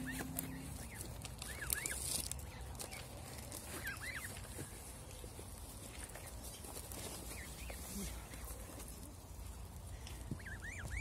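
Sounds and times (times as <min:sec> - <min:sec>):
goslings peeping: 0:00.0 - 0:11.0.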